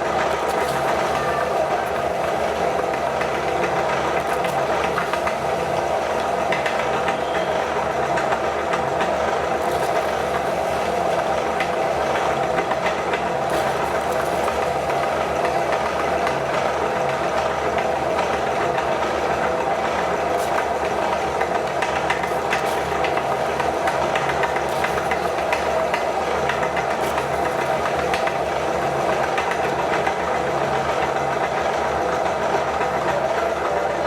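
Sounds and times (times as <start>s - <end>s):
meat grinder motor hum: 0.0s - 32.8s.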